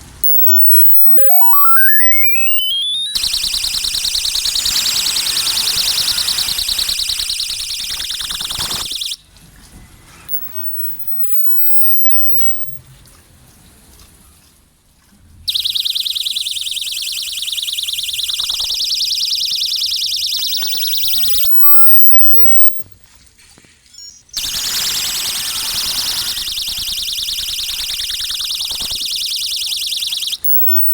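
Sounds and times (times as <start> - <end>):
high-pitched pulsing electronic alarm: 0.0 - 9.2, 10.3 - 12.8, 15.5 - 23.0, 24.0 - 30.9.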